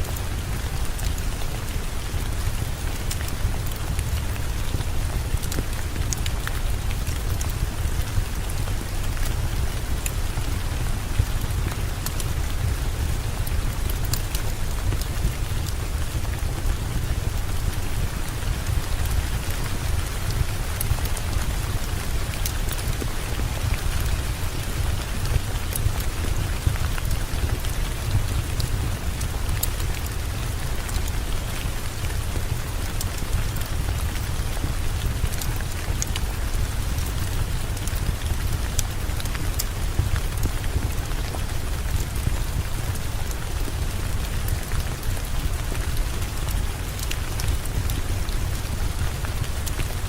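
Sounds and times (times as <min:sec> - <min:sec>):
heavy rain: 0:00.0 - 0:50.0
wood fire crackling: 0:00.2 - 0:50.0.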